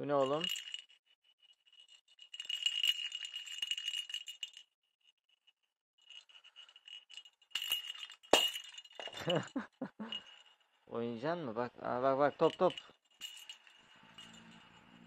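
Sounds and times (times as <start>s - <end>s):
toy ball bell jingling: 0.0s - 4.7s, 6.1s - 10.7s, 12.1s - 15.0s.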